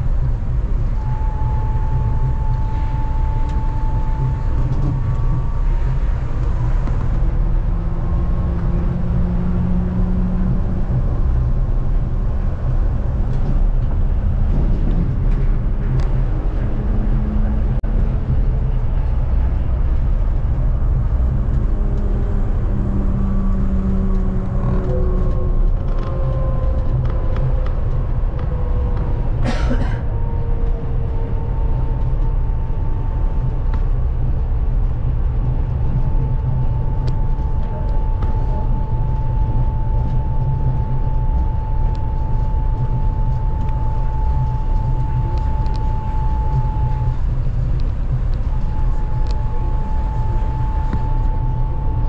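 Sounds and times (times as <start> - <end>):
traction motor whine: 0.0 - 29.5, 30.1 - 52.0
train running with low rumble: 0.0 - 52.0.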